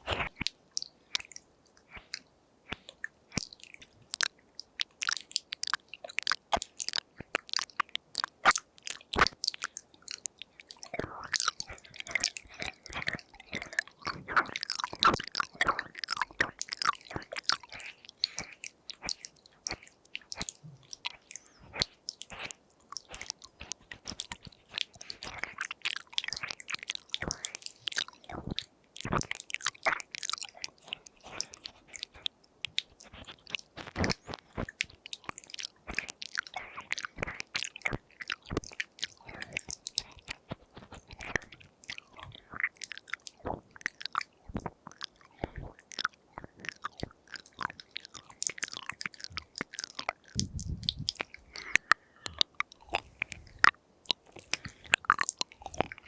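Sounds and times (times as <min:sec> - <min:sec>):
wet mouth clicks and smacks: 0:00.0 - 0:56.0.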